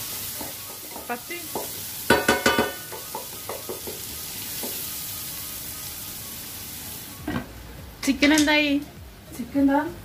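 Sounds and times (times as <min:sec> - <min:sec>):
onions sizzling in frying pan: 0:00.0 - 0:09.9.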